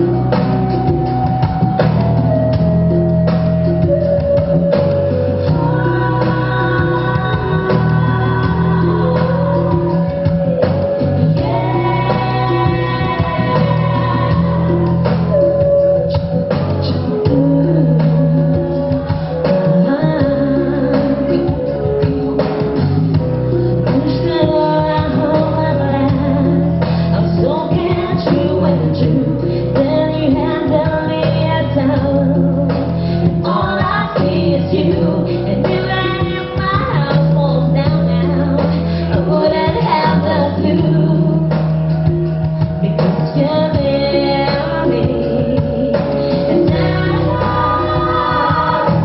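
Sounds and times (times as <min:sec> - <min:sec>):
live pop band playing: 0:00.0 - 0:49.0
woman singing: 0:00.0 - 0:49.0.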